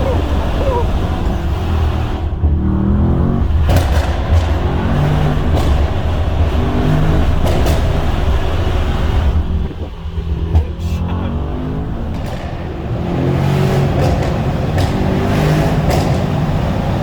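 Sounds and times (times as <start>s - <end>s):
exhaust pops and crackles: 0.0s - 11.2s, 11.8s - 17.0s
car engine revving loudly: 0.0s - 17.0s.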